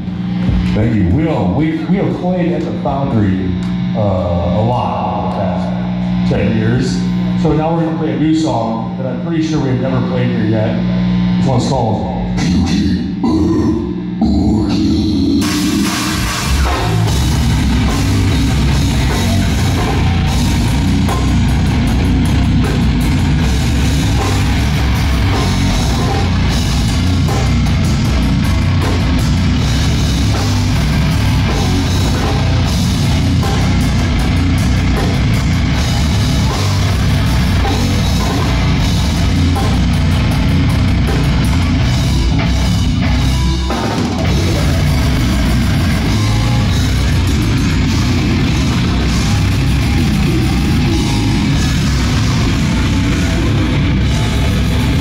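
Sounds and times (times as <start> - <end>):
drum kit: 0.0 - 9.0, 12.2 - 55.0
distorted guitars: 0.0 - 55.0.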